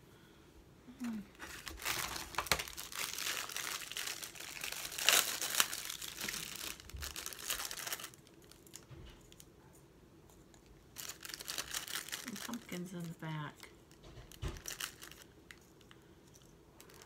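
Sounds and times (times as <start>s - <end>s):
plastic bag crinkling: 1.0s - 9.5s, 10.9s - 17.0s.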